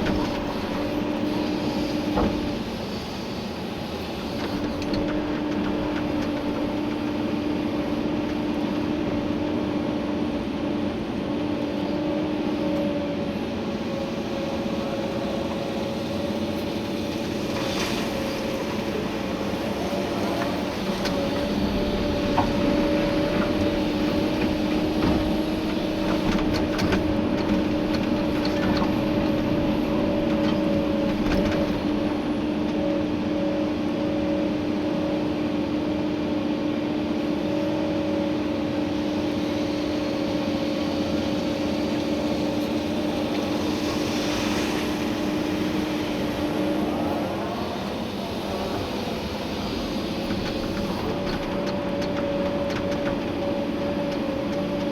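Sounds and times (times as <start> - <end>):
excavator engine and hydraulics: 0.0 - 54.9.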